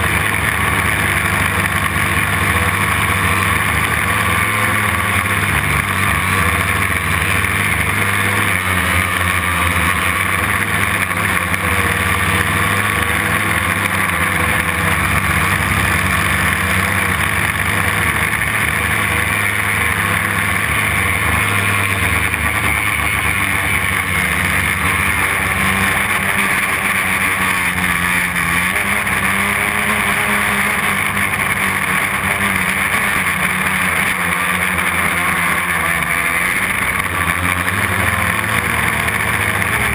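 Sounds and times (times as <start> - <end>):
quadcopter propellers whirring: 0.0 - 39.9.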